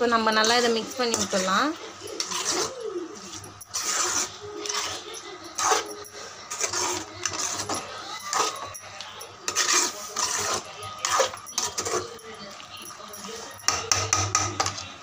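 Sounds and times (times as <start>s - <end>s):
spatula scraping a metal pan: 0.2s - 14.8s.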